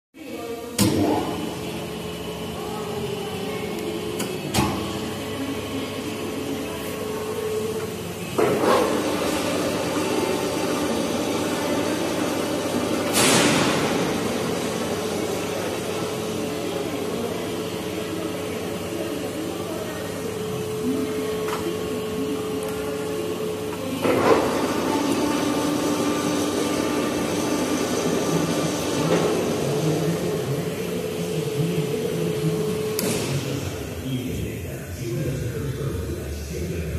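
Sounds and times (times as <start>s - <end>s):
lathe humming: 1.1s - 35.6s.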